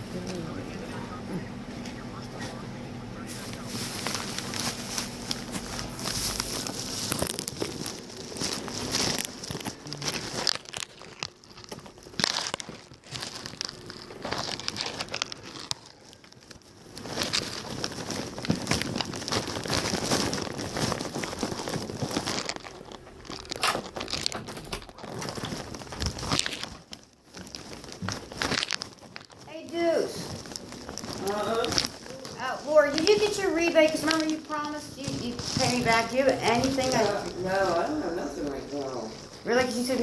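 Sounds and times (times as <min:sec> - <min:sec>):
rustling and crinkling: 0:00.0 - 0:40.0.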